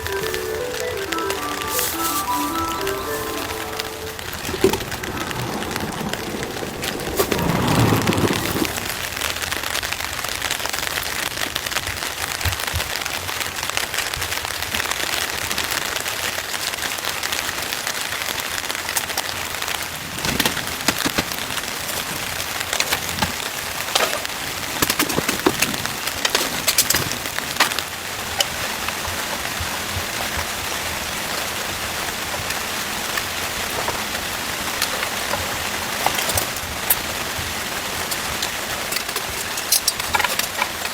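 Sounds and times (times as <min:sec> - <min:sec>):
heavy rain on shelter: 0:00.0 - 0:40.9.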